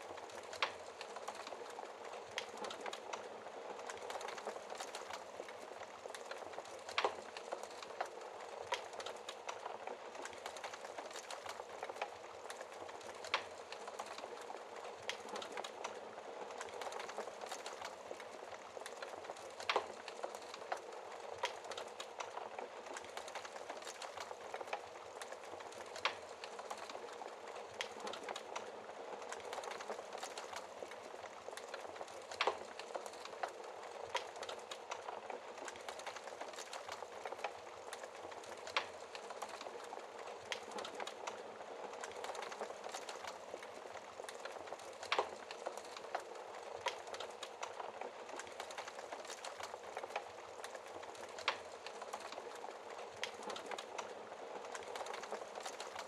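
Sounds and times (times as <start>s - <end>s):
wood fire crackling: 0.0s - 56.0s
fire popping: 0.1s - 56.0s.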